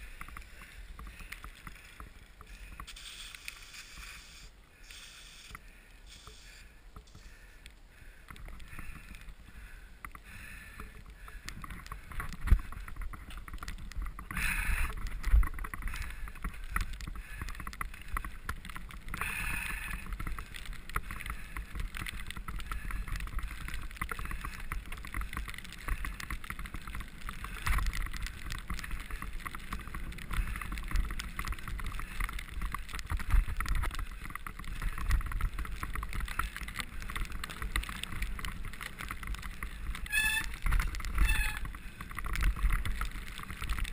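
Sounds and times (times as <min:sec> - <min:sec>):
bike rattling and clicking: 0:00.0 - 0:43.9
tyres rumbling on snow: 0:00.0 - 0:43.9.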